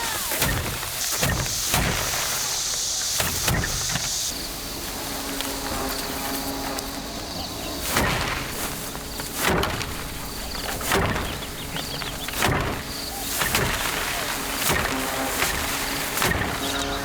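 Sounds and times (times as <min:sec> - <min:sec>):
sheaves thwacking wooden tub: 0:00.0 - 0:17.0.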